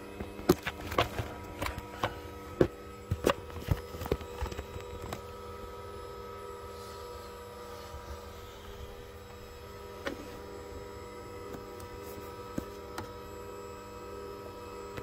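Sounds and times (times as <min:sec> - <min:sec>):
steady electric hum: 0:00.0 - 0:15.0.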